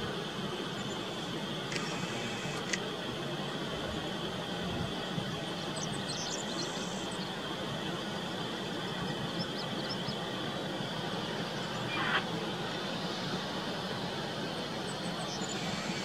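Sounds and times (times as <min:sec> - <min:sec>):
distant jet engine rumble: 0:00.0 - 0:16.0
high jet engine whine: 0:00.0 - 0:16.0.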